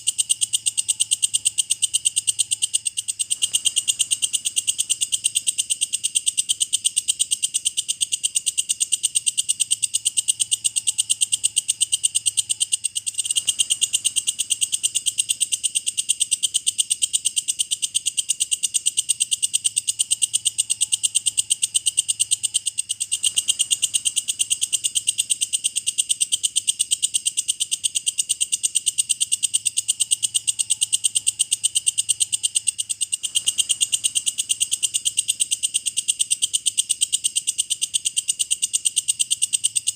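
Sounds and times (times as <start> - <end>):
bush cricket ticking trill: 0.0 - 39.9.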